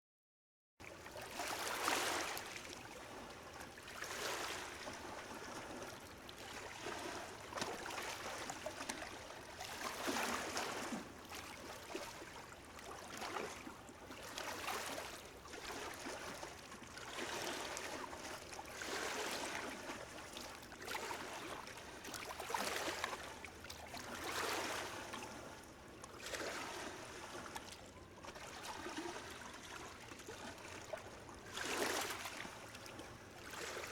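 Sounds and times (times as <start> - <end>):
gentle waves lapping at shore: 0.8 - 33.9.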